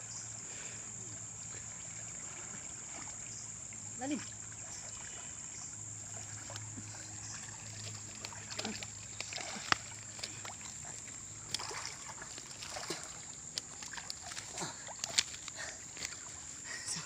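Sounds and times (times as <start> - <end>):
water splashing and sloshing: 0.4 - 17.0.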